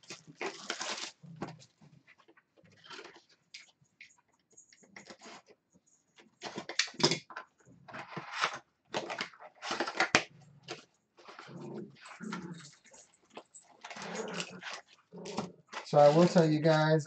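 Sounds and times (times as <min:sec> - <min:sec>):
cardboard and wrappers crinkling: 0:00.0 - 0:07.0, 0:07.8 - 0:17.0.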